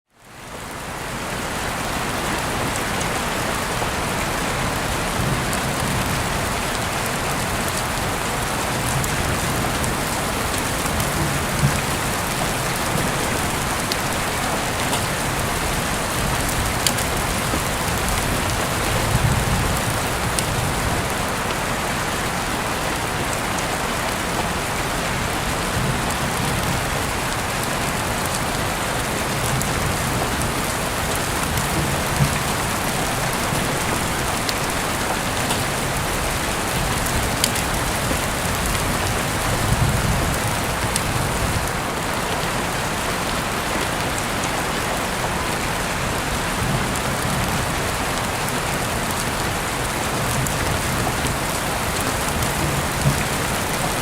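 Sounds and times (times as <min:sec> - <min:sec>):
steady rain falling: 0:00.1 - 0:54.0.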